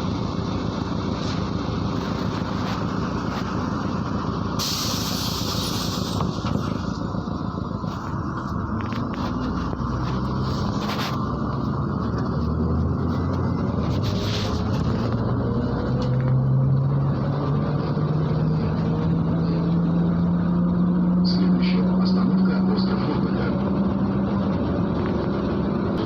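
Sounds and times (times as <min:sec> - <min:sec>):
bus diesel engine accelerating: 0:00.0 - 0:26.0.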